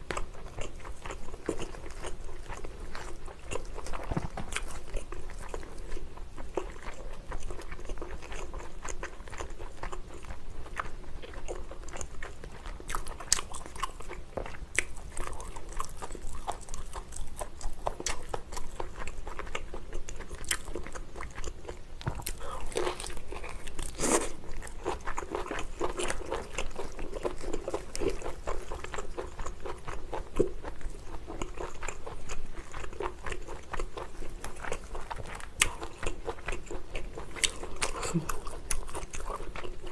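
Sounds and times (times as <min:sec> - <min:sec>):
person chewing lobster: 0:00.0 - 0:39.9.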